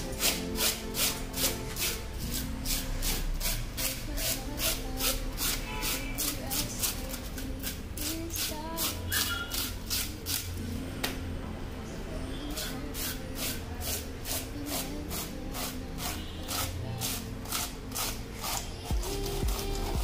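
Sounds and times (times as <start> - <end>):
fish scaler scraping scales: 0.0 - 10.6, 12.5 - 20.0.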